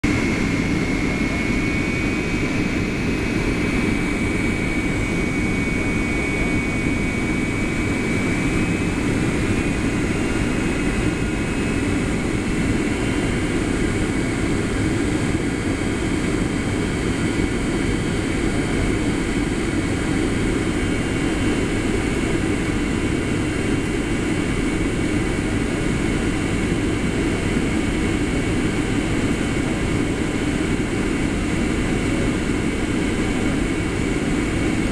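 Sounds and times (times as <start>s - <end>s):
airflow and jet engine noise: 0.0s - 34.9s.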